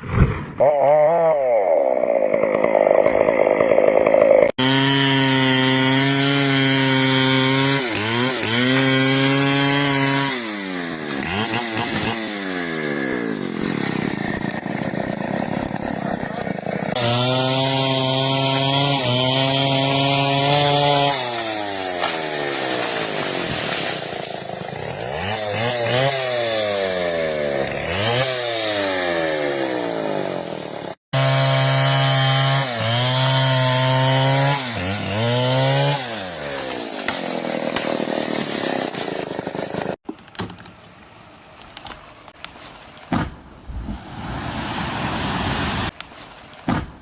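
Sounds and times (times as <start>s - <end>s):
chainsaw cutting into tree: 0.6s - 40.0s.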